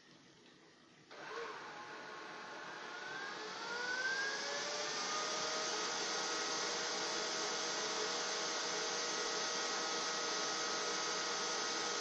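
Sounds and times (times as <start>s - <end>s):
robot vacuum fan whine: 1.1s - 12.0s.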